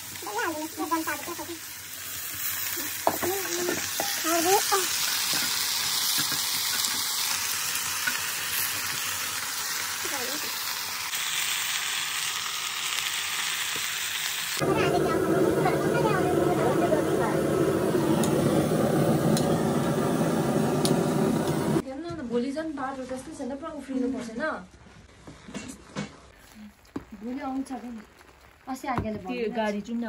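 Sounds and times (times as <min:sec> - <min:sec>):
potatoes sizzling in hot oil: 0:00.0 - 0:21.8, 0:26.4 - 0:30.0.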